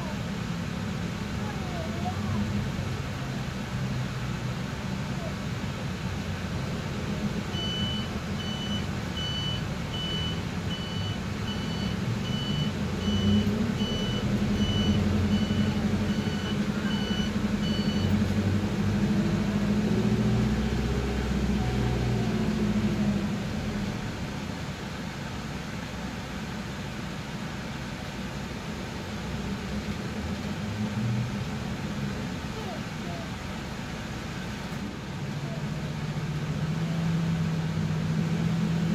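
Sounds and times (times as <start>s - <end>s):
minibus engine running: 0.0s - 38.9s.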